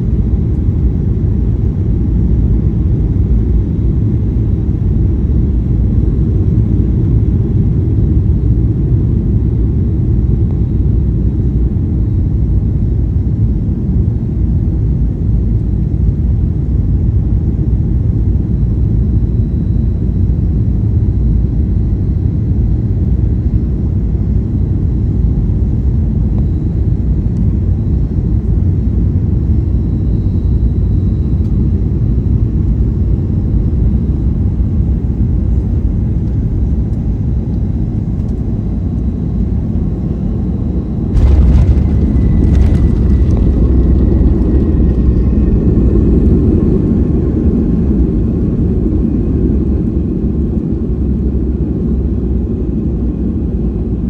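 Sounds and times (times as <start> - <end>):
faint high whine: 0.0 - 50.4
airplane cabin engine rumble: 0.0 - 54.0.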